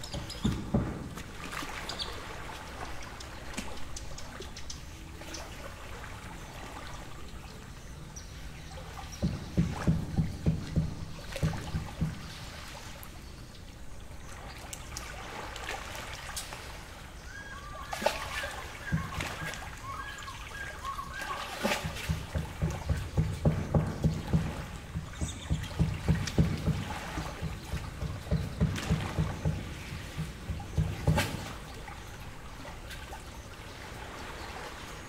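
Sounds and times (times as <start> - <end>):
birds chirping: 0.0 - 15.5, 16.8 - 35.0
waves lapping against shore: 0.0 - 35.0.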